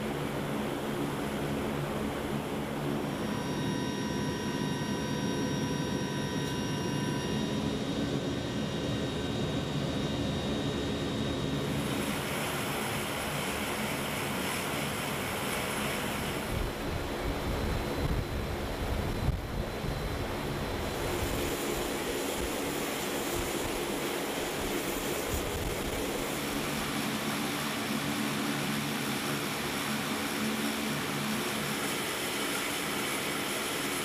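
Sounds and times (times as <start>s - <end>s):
turboprop engines running: 0.0s - 34.0s.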